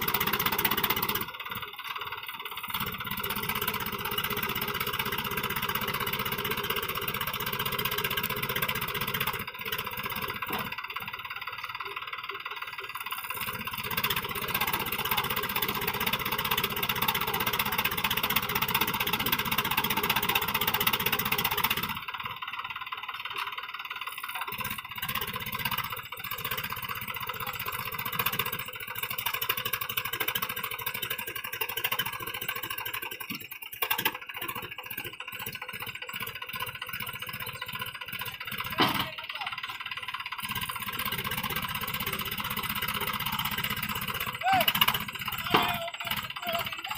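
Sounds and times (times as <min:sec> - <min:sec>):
tractor diesel engine labouring: 0:00.0 - 0:46.9.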